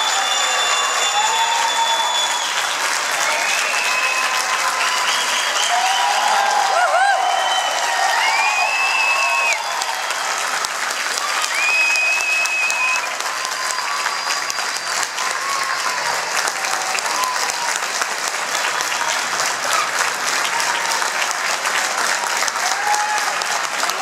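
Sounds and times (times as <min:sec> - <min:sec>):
audience applauding: 0:00.0 - 0:24.0
cheers and shouts: 0:00.0 - 0:24.0.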